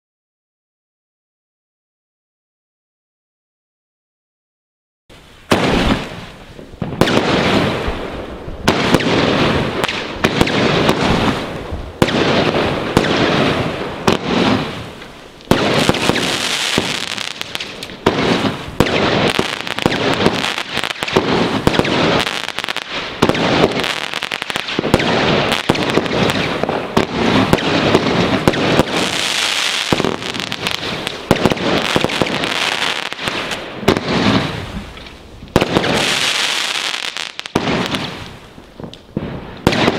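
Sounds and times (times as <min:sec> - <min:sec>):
crackling firework stars: 0:05.1 - 0:39.9
fireworks launching and bursting: 0:05.1 - 0:39.9.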